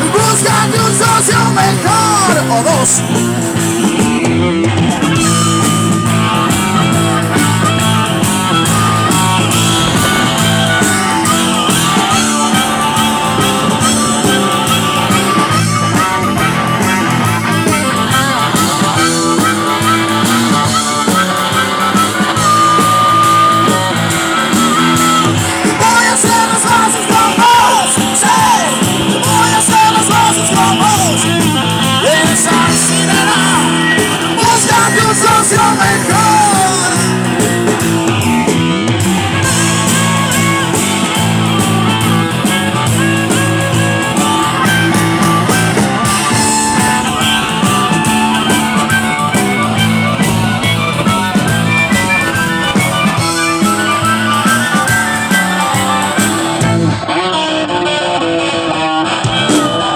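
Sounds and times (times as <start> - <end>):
bass: 0.0 - 59.9
drums: 0.0 - 59.9
electric guitar with bent notes: 0.0 - 59.9
harmonica lead line: 0.0 - 59.9.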